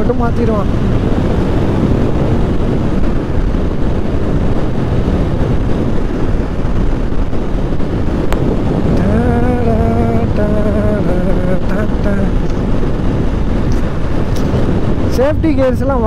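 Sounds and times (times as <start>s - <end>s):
motorcycle engine: 0.0s - 15.2s
road noise: 0.0s - 16.0s
wind rushing over microphone: 0.0s - 16.0s.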